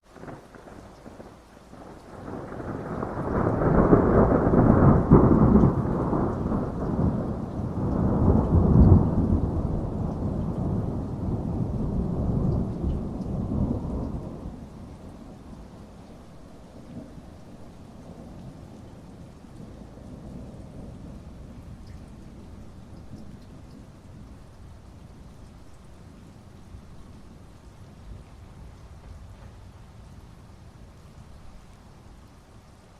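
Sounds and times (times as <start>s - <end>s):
steady rain: 0.0s - 32.9s
thunder rumbling: 0.1s - 30.6s.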